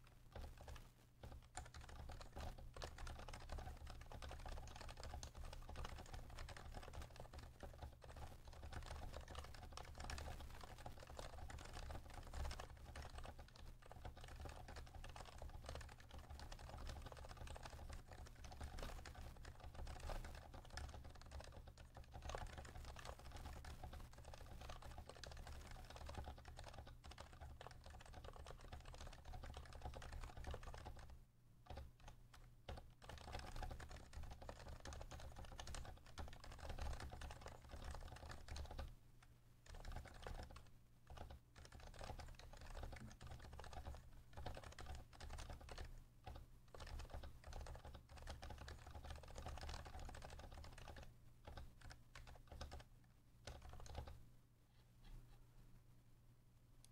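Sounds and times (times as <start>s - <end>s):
soft muffled keyboard typing: 0.0s - 55.6s.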